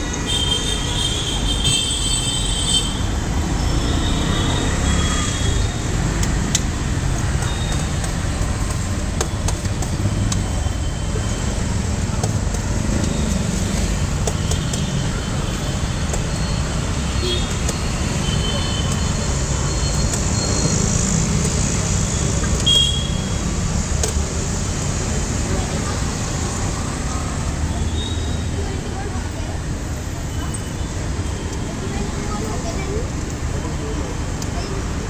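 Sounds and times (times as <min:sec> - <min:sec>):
street traffic rumble: 0:00.0 - 0:35.0.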